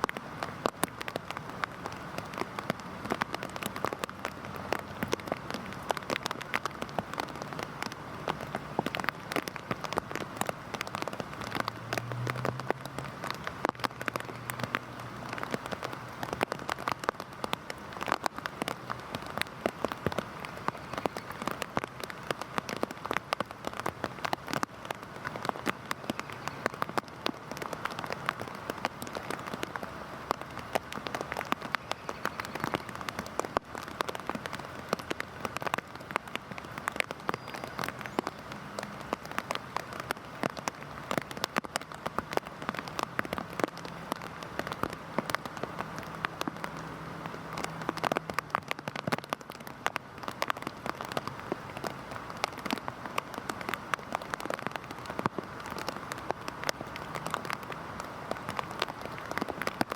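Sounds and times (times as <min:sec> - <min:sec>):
heavy rain on hard surface: 0:00.0 - 0:59.9.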